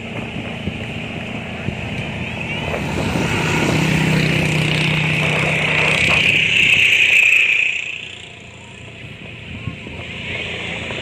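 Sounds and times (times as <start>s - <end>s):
steady high road hiss: 0.0s - 11.0s
vehicle engine hum: 0.0s - 11.0s.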